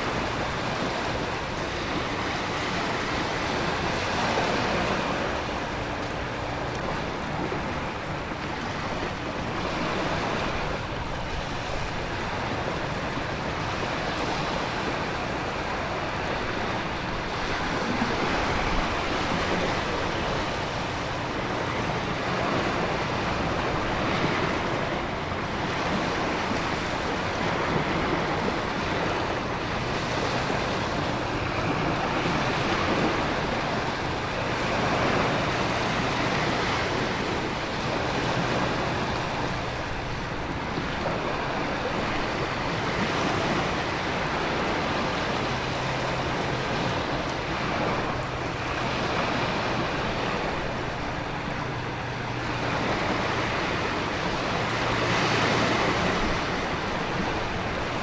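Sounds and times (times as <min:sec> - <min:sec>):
ocean waves crashing: 0:00.0 - 0:58.0
wind: 0:00.0 - 0:58.0.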